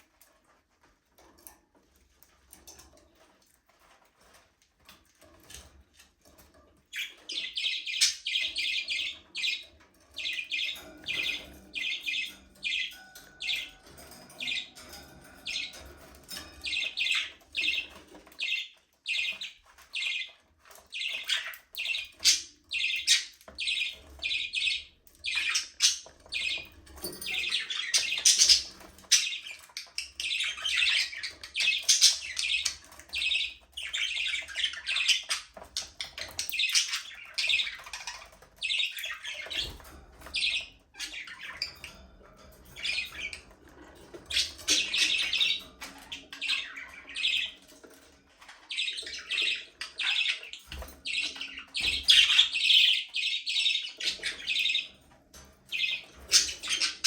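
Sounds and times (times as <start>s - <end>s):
budgerigars chattering and chirping: 6.9s - 57.0s.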